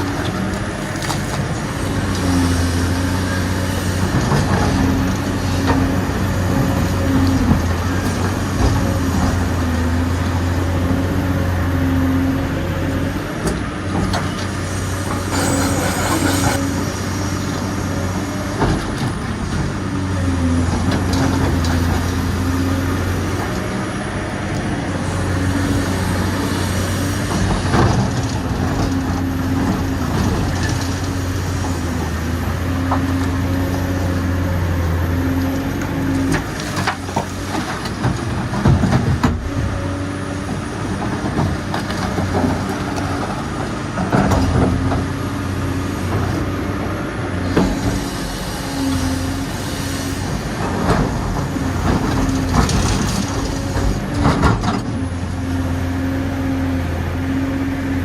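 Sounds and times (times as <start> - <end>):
construction machine engine running: 0.0 - 58.0.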